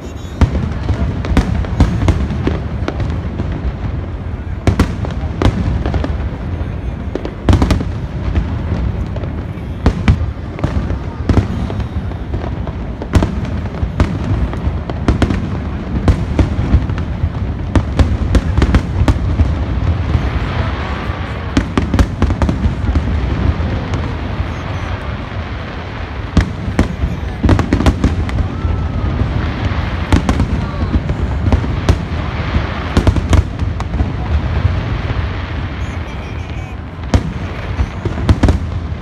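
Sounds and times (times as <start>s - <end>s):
fireworks bangs: 0.0s - 39.0s.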